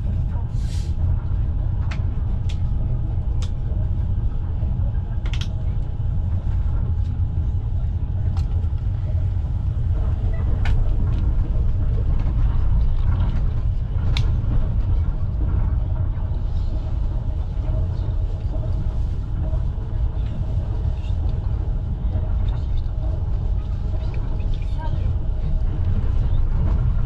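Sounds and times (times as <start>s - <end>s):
train wheels low rumble: 0.0s - 27.0s.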